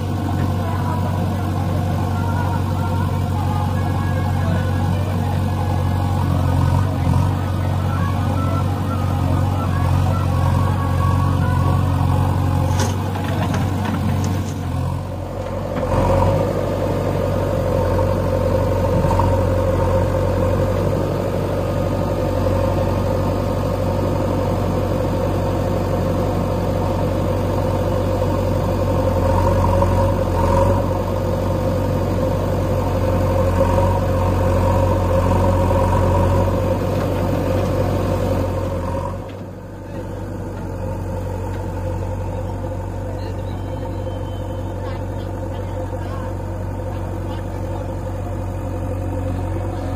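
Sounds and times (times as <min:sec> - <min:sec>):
diesel engines running under work: 0:00.0 - 0:49.9.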